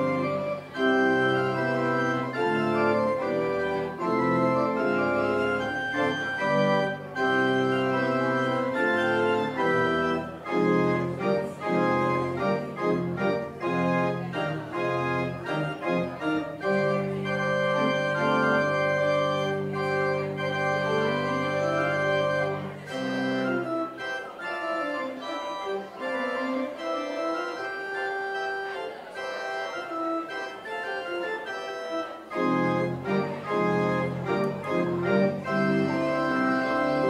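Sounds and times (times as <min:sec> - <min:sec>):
church organ playing: 0:00.0 - 0:37.0.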